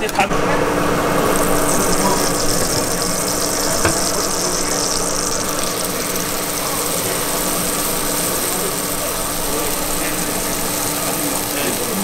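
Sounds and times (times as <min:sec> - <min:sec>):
machine hum: 0:00.3 - 0:12.0
constant hiss: 0:00.9 - 0:12.0.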